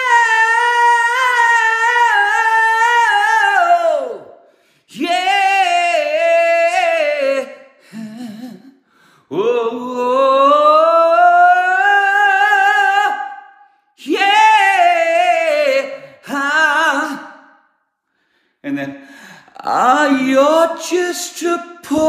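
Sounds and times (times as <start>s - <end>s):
man singing a cappella: 0.0s - 17.7s, 18.6s - 22.0s.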